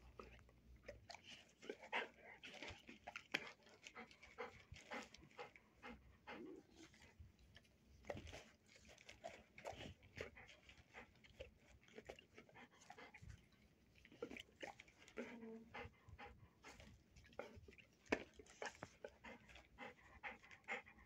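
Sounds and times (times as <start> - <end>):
dog panting: 0.0 - 13.6, 14.2 - 21.0.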